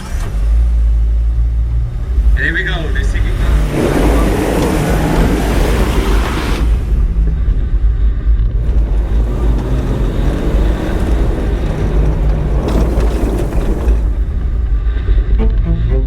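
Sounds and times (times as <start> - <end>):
car engine rumbling off-road: 0.0 - 15.3.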